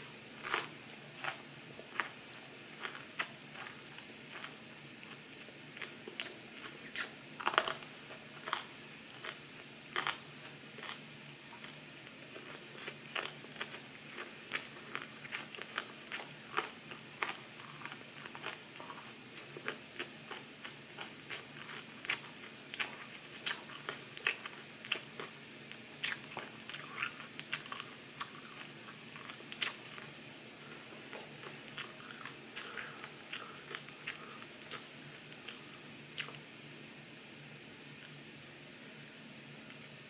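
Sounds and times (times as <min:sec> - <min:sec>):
broccoli being chewed: 0:00.3 - 0:36.7.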